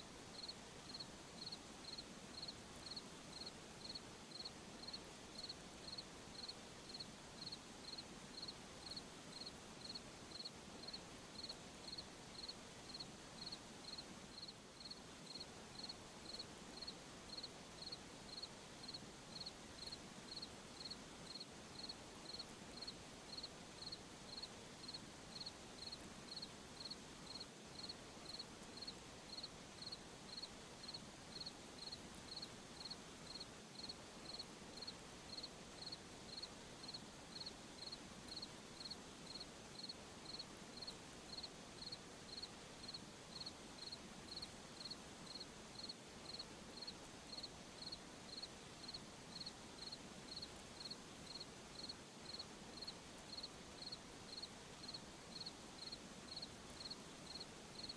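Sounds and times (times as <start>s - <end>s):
soft hiss: 0.0s - 57.9s
cricket chirping: 0.3s - 57.9s.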